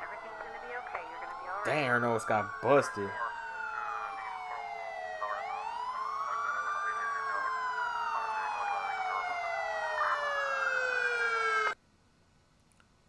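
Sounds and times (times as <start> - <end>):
emergency sirens wailing: 0.0 - 11.8.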